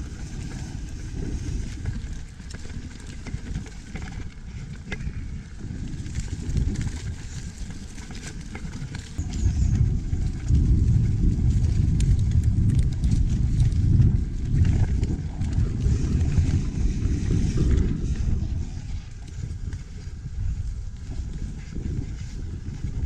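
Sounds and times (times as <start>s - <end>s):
bike rattles and clicks: 0.0s - 23.0s
wind rumble on microphone: 0.0s - 23.0s.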